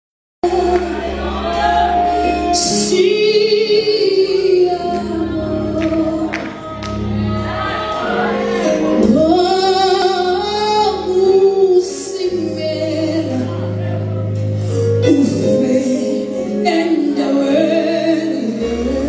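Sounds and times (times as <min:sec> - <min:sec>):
backing singers: 0:00.4 - 0:19.0
band playing gospel: 0:00.4 - 0:19.0
low bass notes: 0:00.4 - 0:19.0
woman singing lead: 0:00.4 - 0:19.0.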